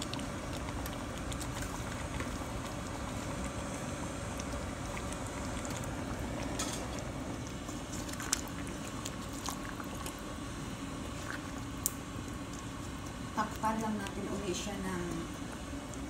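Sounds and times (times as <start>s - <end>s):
sauce simmering in frying pan: 0.0s - 16.0s.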